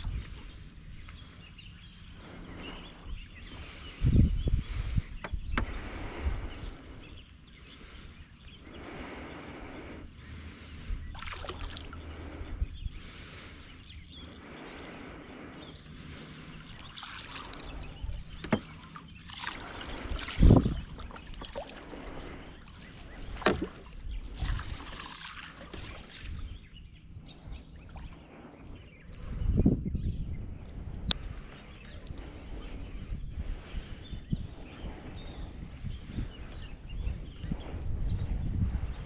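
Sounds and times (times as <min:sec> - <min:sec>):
water around a boat: 0:00.0 - 0:39.0.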